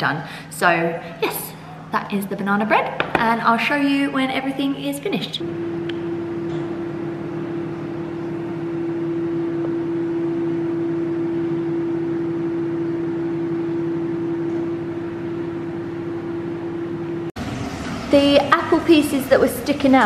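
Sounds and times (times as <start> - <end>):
appliance fan whirring: 0.0 - 20.0.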